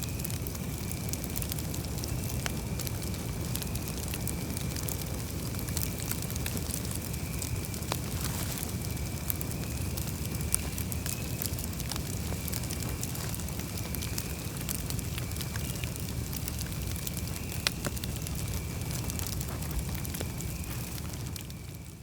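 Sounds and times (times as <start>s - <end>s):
campfire crackling: 0.0s - 22.0s
loud fire pops: 0.1s - 22.0s.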